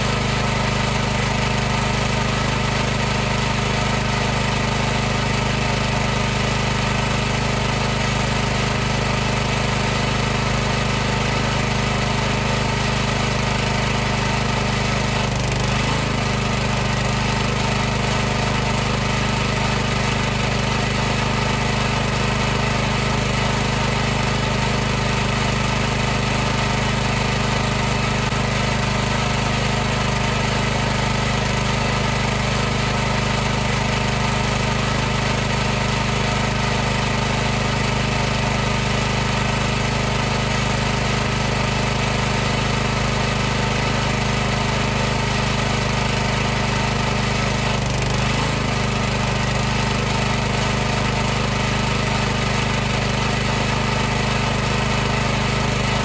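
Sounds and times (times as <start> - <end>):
pressure washer motor running: 0.0 - 56.0.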